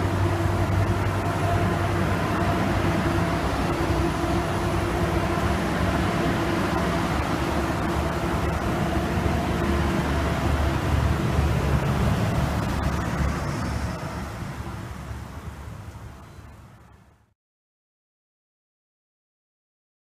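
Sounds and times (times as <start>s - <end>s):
faint hum: 0.0s - 17.3s
train rumbling on rails: 0.0s - 17.3s.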